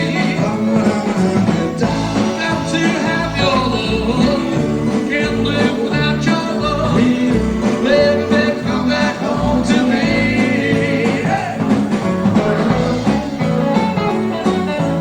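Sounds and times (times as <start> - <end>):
people singing: 0.0 - 14.8
live band playing doo-wop: 0.0 - 15.0.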